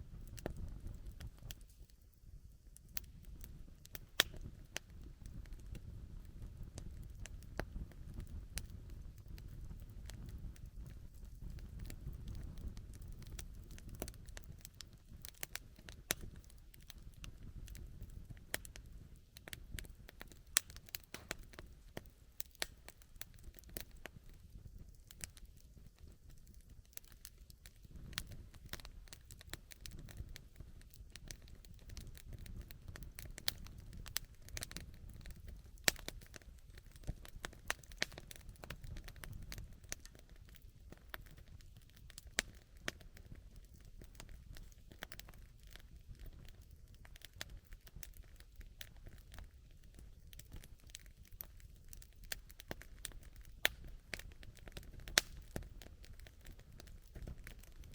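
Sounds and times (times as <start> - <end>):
campfire crackling and popping: 0.0 - 57.9
low fire rumble: 0.0 - 57.9.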